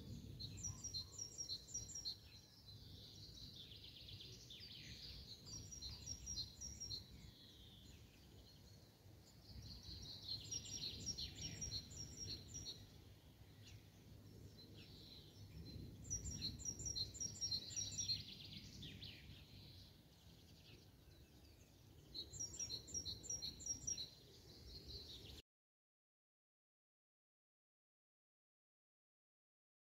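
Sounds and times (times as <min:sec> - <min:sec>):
faint low background noise: 0:00.0 - 0:25.4
songbird chirping: 0:00.0 - 0:25.4.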